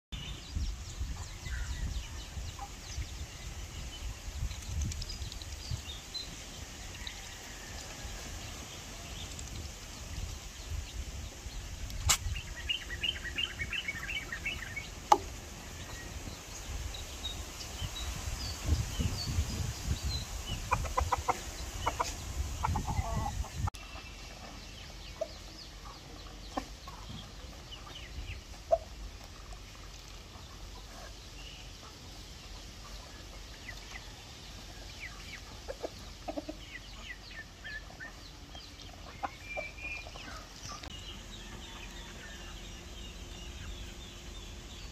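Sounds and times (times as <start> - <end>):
chickens clucking: 0.9 - 44.9.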